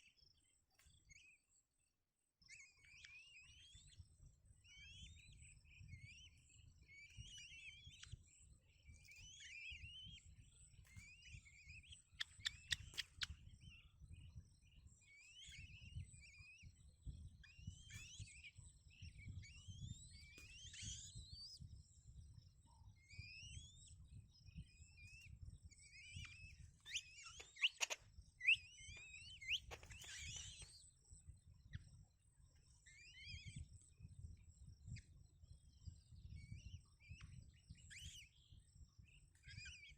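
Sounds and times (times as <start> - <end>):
baby birds cheeping: 2.5 - 39.9.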